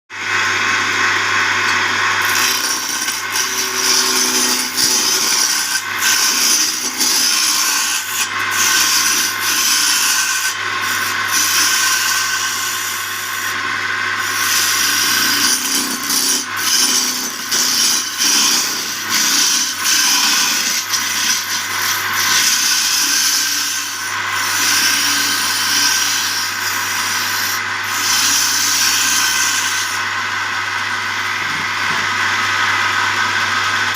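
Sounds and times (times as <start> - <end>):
tool rasping wood: 0.8 - 30.1.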